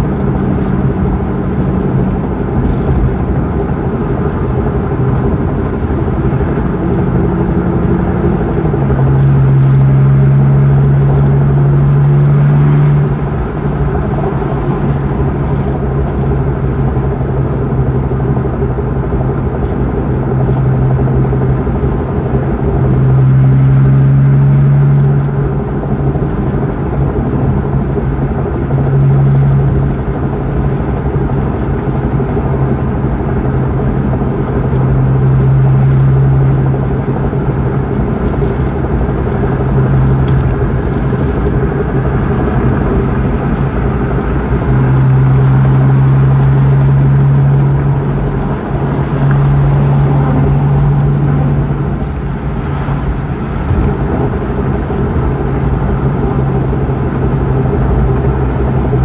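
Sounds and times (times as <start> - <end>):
car cabin road drone: 0.0 - 59.0.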